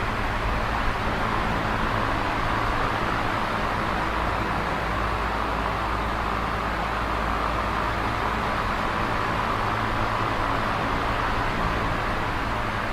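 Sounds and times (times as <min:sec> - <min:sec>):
box fan rushing air: 0:00.0 - 0:12.9.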